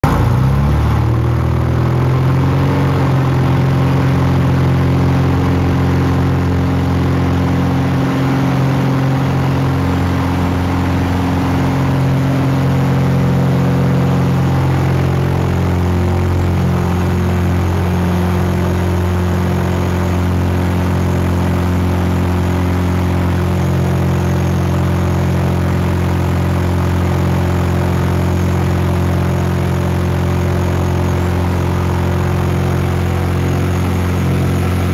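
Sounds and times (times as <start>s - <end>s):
aircraft engine and propeller: 0.0s - 34.9s.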